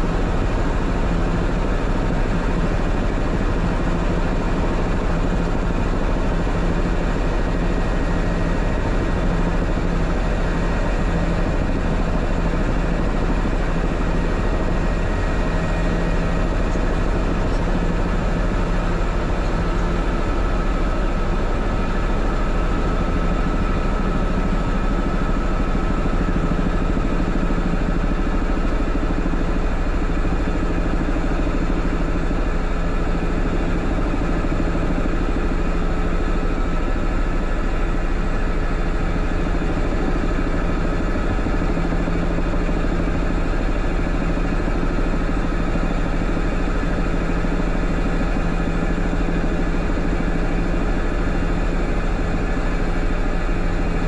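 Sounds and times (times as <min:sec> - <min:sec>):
faint steady whine: 0:00.0 - 0:54.0
helicopter engine and rotors: 0:00.0 - 0:54.0.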